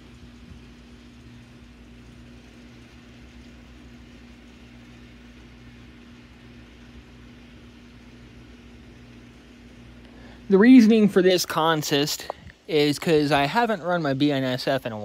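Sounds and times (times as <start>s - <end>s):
model trains humming: 0.0s - 15.0s.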